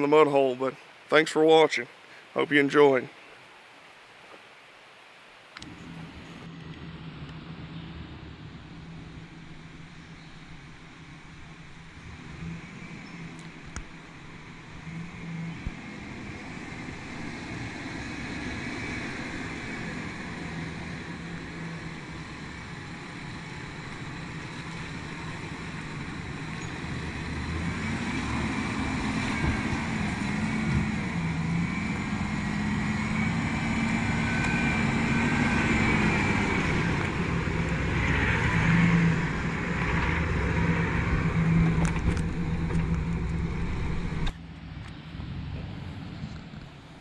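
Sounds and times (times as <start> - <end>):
pickup truck engine revving: 5.6 - 44.3.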